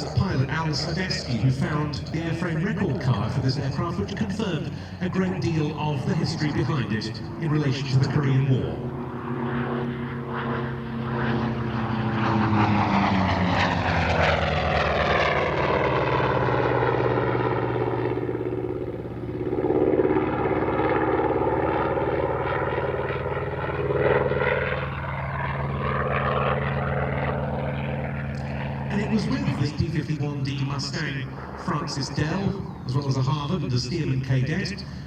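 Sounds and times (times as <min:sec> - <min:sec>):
propeller plane engine passing: 0:00.0 - 0:35.0.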